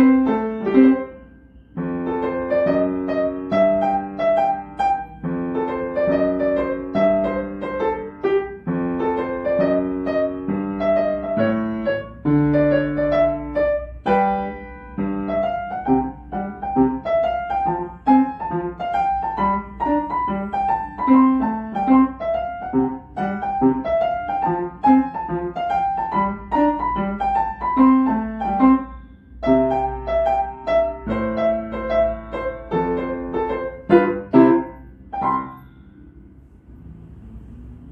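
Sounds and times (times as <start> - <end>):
piano playing: 0.0 - 37.9.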